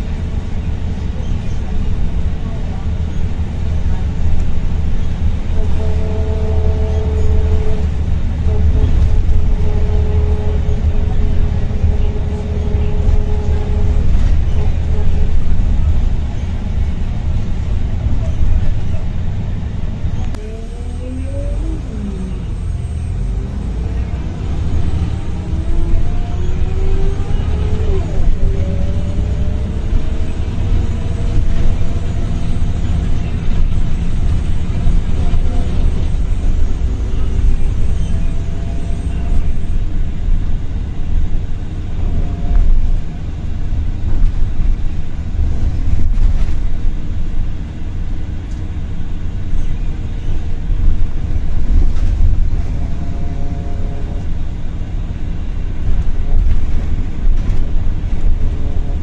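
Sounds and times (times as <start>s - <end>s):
bus diesel engine rumble: 0.0s - 59.0s.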